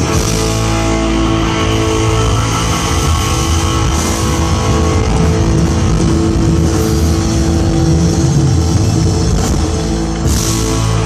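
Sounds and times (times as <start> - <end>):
live rock band playing loudly: 0.0 - 11.0.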